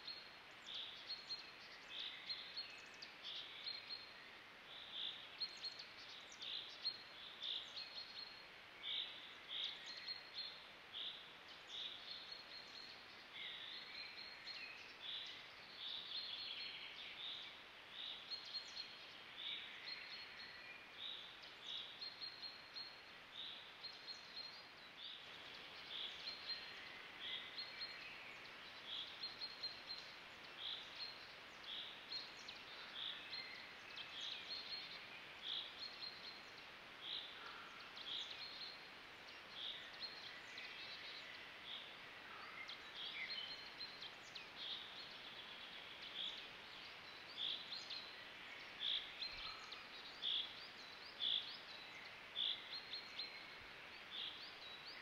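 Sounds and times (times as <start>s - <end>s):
faint background birdsong: 0.0s - 55.0s
soft outdoor hiss: 0.0s - 55.0s.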